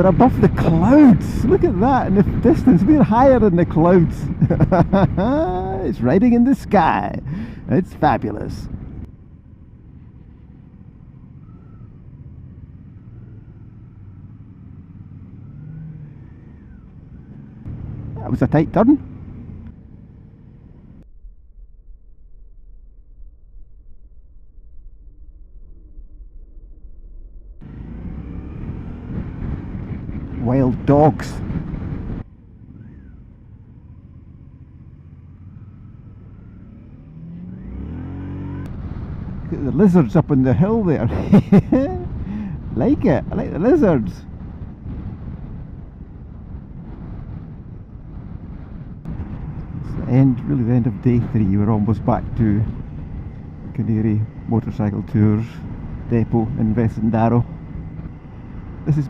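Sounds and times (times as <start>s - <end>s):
faint engine whine: 0.0s - 59.0s
motorcycle engine and road rumble: 0.0s - 59.0s.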